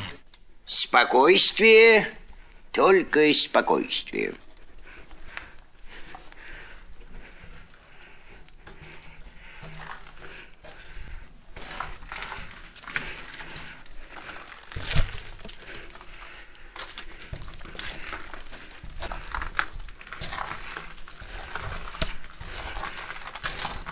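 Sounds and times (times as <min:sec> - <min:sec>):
footsteps crunching on gritty floor: 0:01.6 - 0:23.9
clothing and gear rustling: 0:04.1 - 0:23.9.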